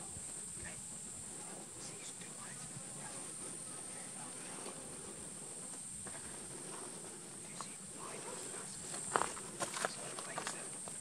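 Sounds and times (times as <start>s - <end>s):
faint ticks and rustles: 0.0s - 11.0s
insects droning: 0.0s - 11.0s.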